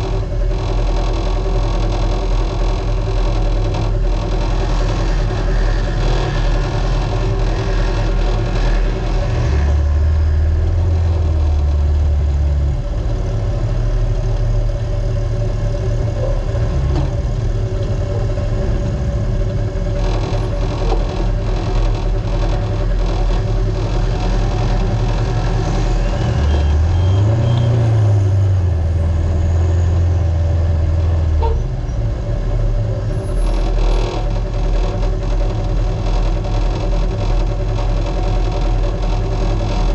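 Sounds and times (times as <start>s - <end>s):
off-road vehicle engine racing: 0.0s - 39.9s
tyre and chassis noise: 0.0s - 39.9s.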